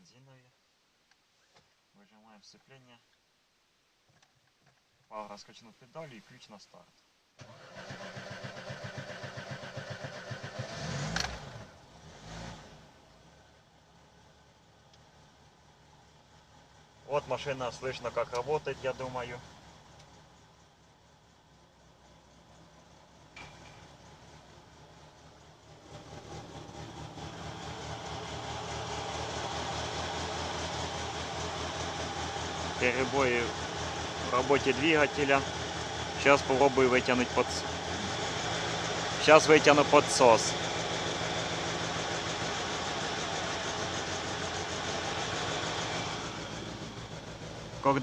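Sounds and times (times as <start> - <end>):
car engine cranking and starting: 7.4 - 48.0.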